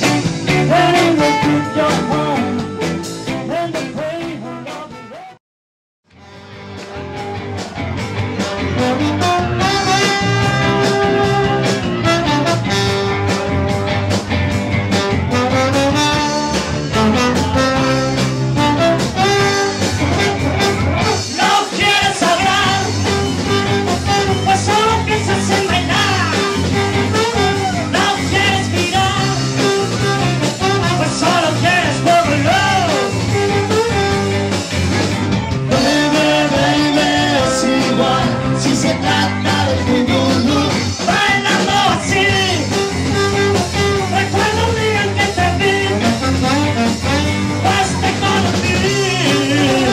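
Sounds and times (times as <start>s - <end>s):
bass: 0.0s - 5.4s, 6.0s - 49.9s
electric guitar: 0.0s - 5.4s, 6.1s - 49.9s
rhythm section: 0.0s - 5.4s, 6.2s - 49.9s
trombone: 0.0s - 5.4s, 8.3s - 49.9s.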